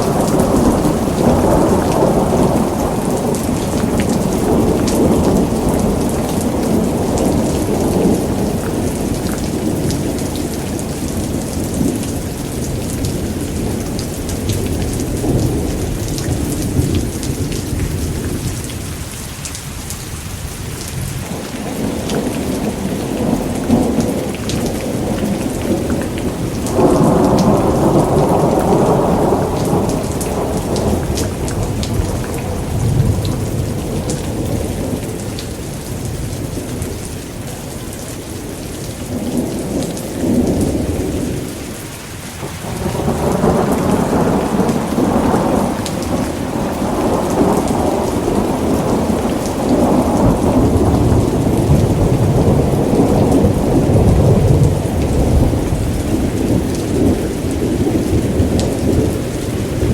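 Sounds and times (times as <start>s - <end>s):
rolling thunder: 0.0s - 19.0s, 20.9s - 38.1s, 42.4s - 59.9s
steady rain: 0.0s - 59.9s.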